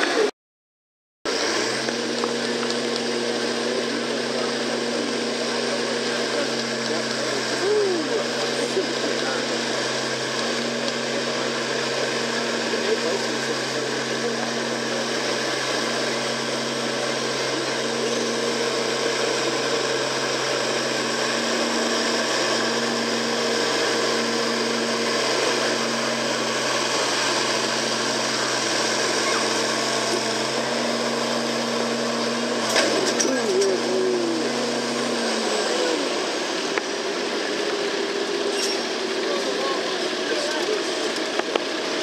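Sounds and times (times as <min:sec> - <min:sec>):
tractor engine running: 0:01.3 - 0:42.0.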